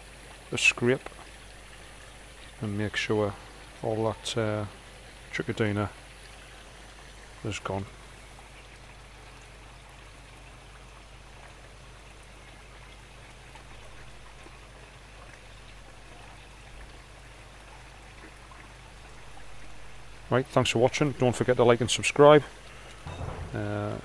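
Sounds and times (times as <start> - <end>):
trickling splashing water: 0.0 - 24.0.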